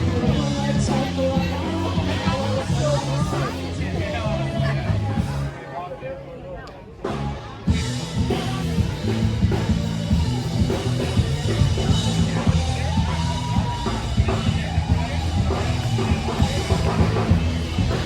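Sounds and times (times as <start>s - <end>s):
drum kit beat: 0.0s - 5.5s, 7.1s - 18.0s
live rock band playing: 0.0s - 5.5s, 7.0s - 18.0s
bass notes: 0.0s - 5.6s, 7.1s - 18.0s.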